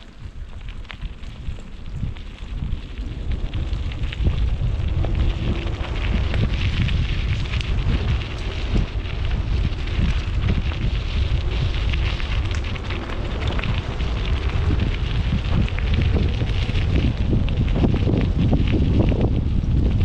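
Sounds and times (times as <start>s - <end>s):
crackly hiss of ticks: 0.0s - 20.0s
wind buffeting microphone: 0.0s - 20.0s.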